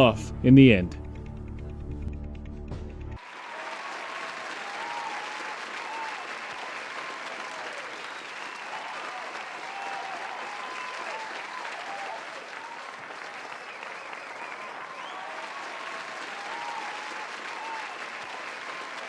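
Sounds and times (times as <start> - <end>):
crowd clapping: 3.2 - 19.0
people cheering and whooping: 3.2 - 19.0.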